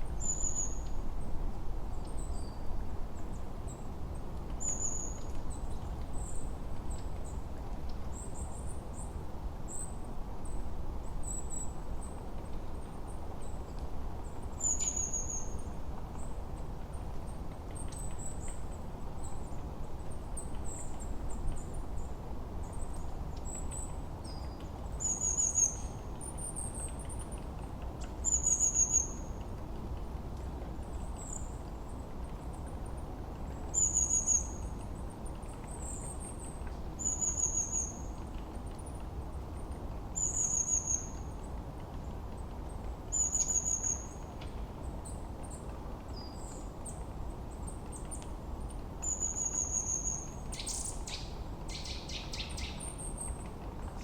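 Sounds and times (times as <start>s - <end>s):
songbirds chirping: 0.1s - 54.0s.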